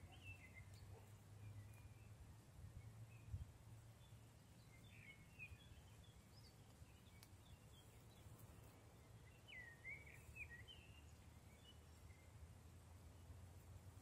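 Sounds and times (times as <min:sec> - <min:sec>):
songbird chirping and warbling: 0:00.0 - 0:12.6.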